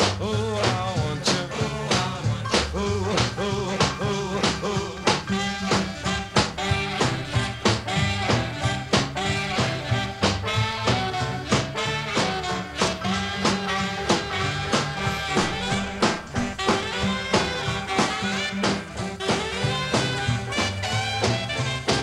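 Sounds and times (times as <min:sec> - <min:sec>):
instrumental rockabilly music: 0:00.0 - 0:22.0.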